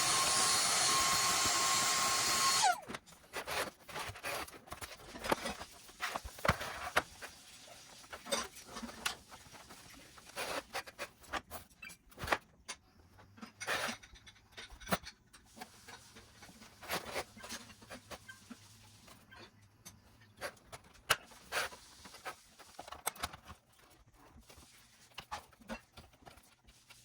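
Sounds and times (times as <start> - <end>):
hands handling plastic parts: 2.3 - 27.0.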